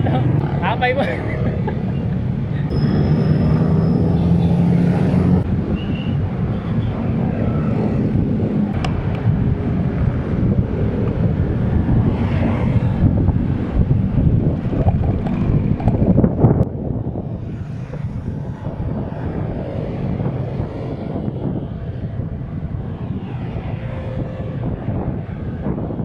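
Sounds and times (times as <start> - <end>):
road traffic rumble: 0.0 - 26.0
wind buffeting microphone: 0.0 - 26.0.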